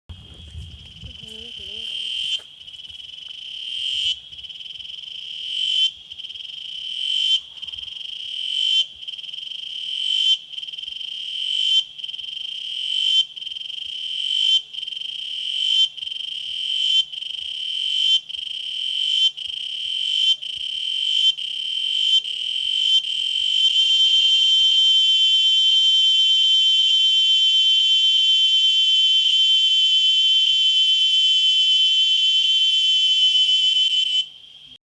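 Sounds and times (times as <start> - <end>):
cicada buzzing: 0.4 - 34.7.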